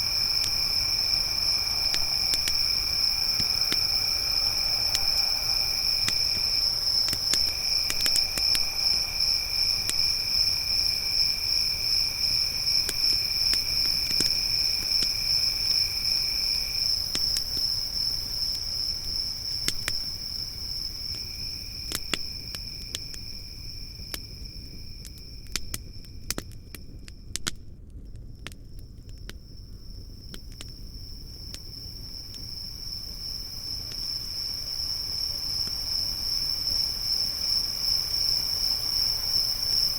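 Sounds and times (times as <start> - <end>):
lower-pitched insect trill: 0.0 - 27.4, 29.1 - 39.9
campfire crackling: 0.0 - 39.9
crickets trilling: 0.0 - 39.9.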